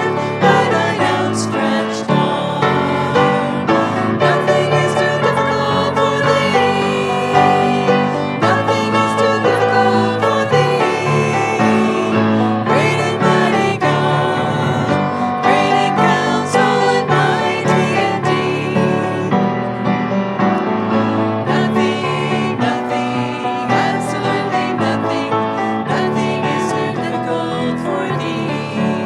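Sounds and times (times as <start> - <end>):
piano accompaniment: 0.0 - 29.0
voices singing worship song: 0.0 - 29.0.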